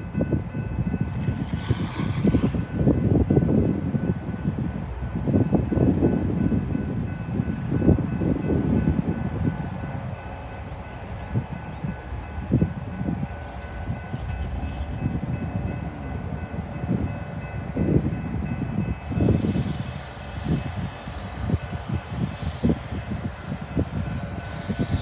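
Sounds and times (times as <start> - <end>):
diesel locomotive rumbling: 0.0 - 25.0.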